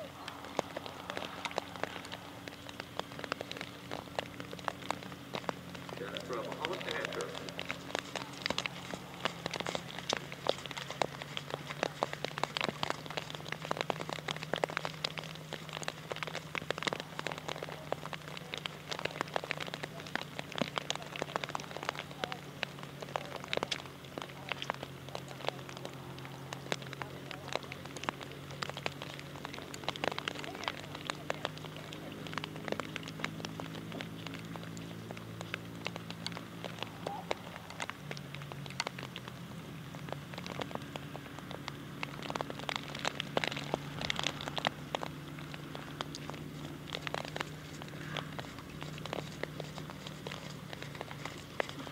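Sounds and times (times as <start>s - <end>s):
rain pattering: 0.0s - 51.9s
steady low hum: 0.0s - 51.9s.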